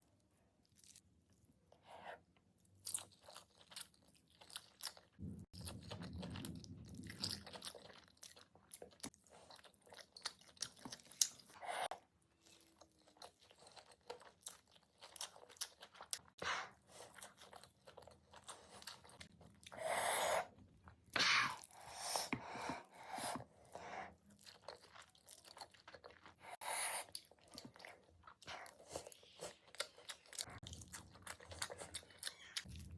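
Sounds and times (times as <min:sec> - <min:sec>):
person chewing and crunching food: 0:00.0 - 0:32.9.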